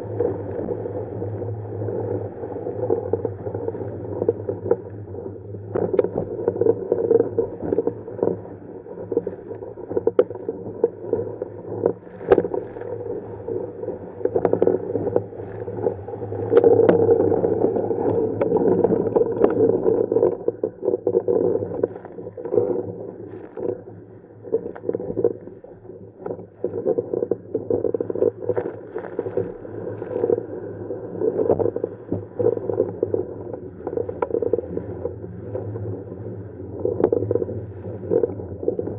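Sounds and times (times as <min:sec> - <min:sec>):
water rushing along a hull: 0:00.0 - 0:38.9.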